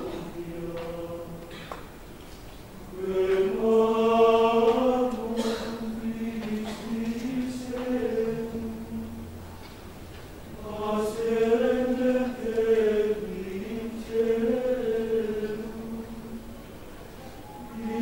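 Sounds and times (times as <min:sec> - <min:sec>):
men's choir chanting in unison: 0:00.0 - 0:01.7, 0:02.9 - 0:09.4, 0:10.5 - 0:16.4, 0:17.6 - 0:18.0.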